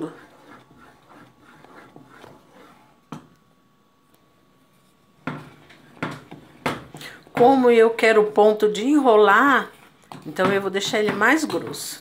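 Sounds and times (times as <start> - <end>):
wooden spoon scraping a pan: 0.0 - 3.3, 4.7 - 8.7, 9.3 - 12.0.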